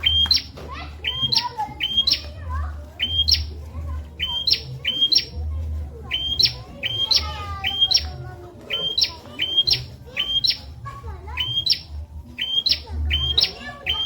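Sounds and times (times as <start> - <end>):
bird chirping sharply: 0.0 - 2.3, 3.0 - 3.6, 4.2 - 5.4, 6.1 - 14.0.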